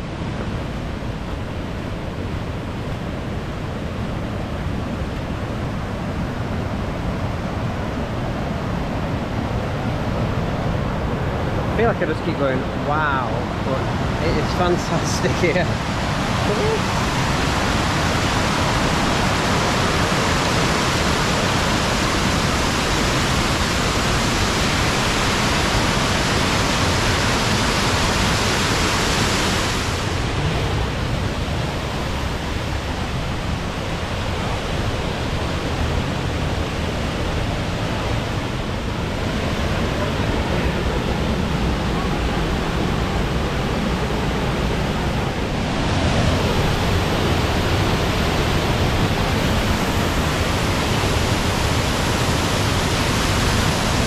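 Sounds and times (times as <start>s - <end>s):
waterfall rushing: 7.6s - 54.0s.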